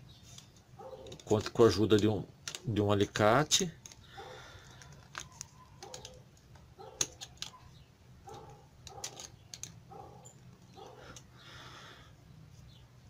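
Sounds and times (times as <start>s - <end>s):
pliers clicking and scraping wire: 0.3s - 11.4s.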